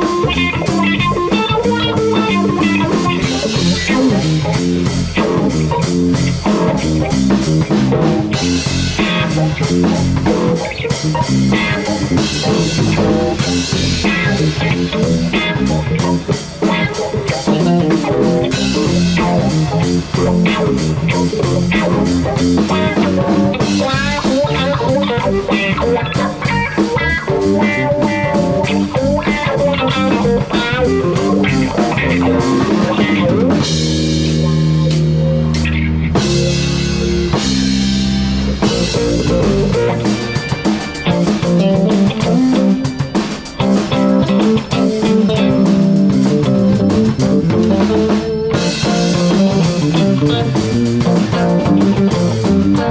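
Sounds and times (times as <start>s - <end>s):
bass guitar: 0.0s - 52.9s
drum kit: 0.0s - 52.9s
electric guitar: 0.0s - 52.9s.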